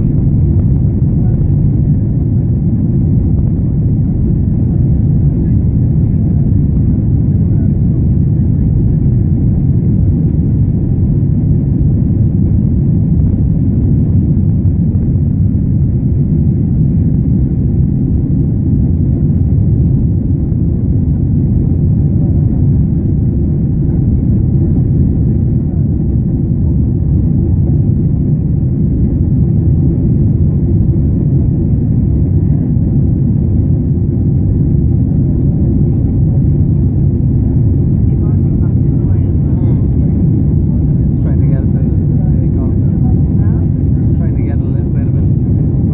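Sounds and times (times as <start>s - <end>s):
airliner engines rumbling: 0.0s - 45.9s.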